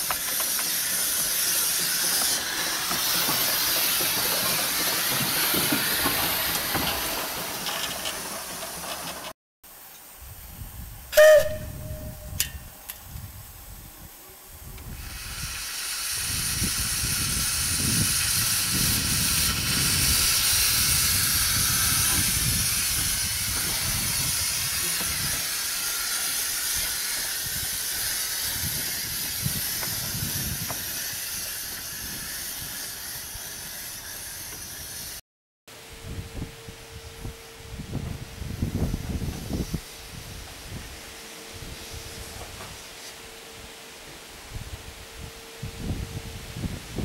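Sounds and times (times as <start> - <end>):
steam locomotive hissing: 0.0 - 9.4, 10.1 - 35.2, 36.2 - 47.0.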